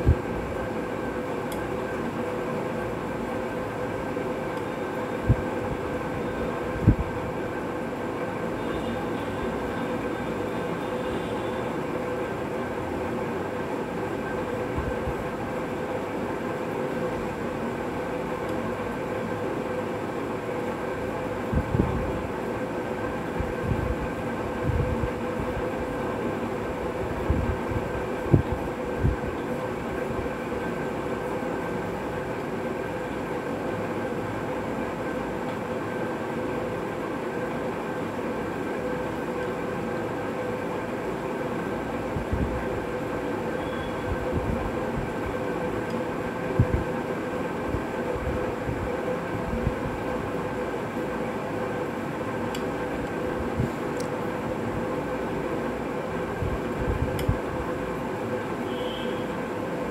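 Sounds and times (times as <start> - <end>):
faint held hum: 0.0 - 59.9.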